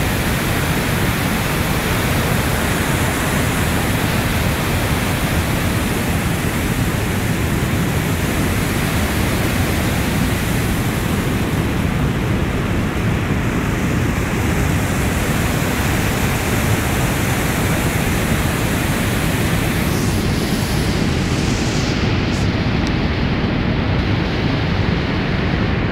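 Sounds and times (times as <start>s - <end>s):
floodwater rushing through spillway: 0.0s - 25.8s.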